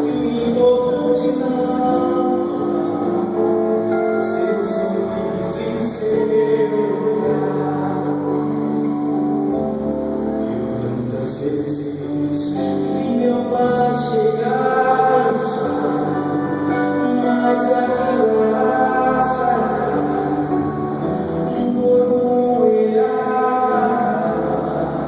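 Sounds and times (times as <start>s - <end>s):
keyboard chords: 0.0s - 25.0s
person singing slow melody: 0.0s - 25.0s.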